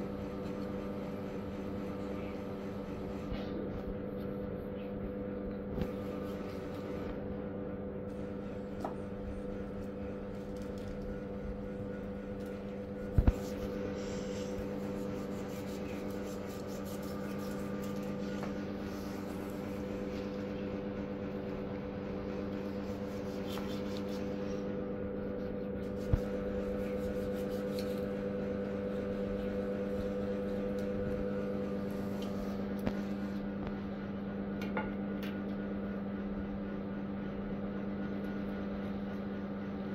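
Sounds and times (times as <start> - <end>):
appliance machine hum: 0.0 - 39.9.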